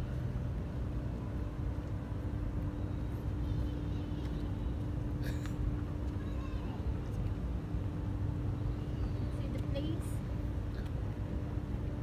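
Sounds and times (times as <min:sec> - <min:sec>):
city background rumble: 0:00.0 - 0:12.0
constant hum: 0:00.0 - 0:12.0.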